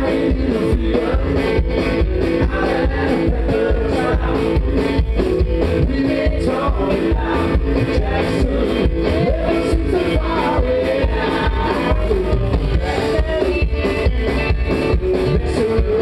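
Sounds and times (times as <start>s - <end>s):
country rock band playing: 0.0s - 16.0s.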